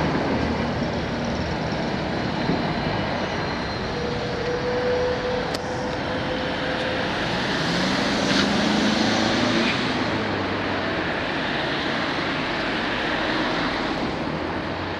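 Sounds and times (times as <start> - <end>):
passing vehicles rushing: 0.0 - 14.9.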